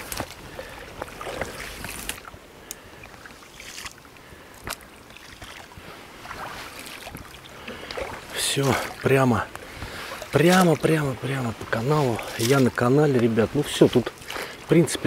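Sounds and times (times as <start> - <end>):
oar splashes and knocks: 0.0 - 2.4, 4.6 - 15.0
soft rustling water wash: 0.0 - 15.0.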